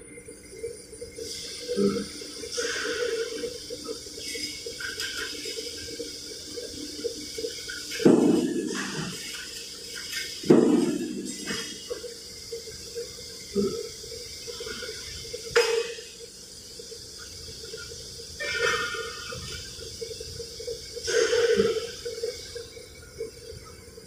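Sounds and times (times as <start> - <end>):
machinery humming: 0.0 - 24.0
hissing scraping bursts: 1.2 - 10.5, 11.2 - 22.9.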